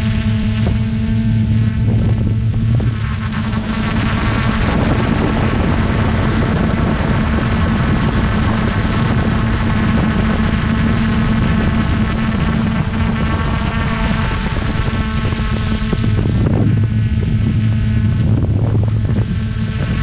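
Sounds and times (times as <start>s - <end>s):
drone propellers buzzing: 0.0s - 20.0s.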